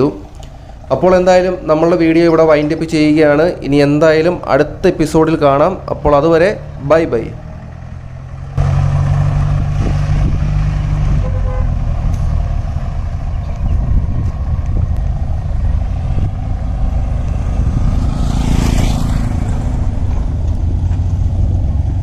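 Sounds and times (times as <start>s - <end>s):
off-road vehicle engine droning: 0.0s - 22.0s.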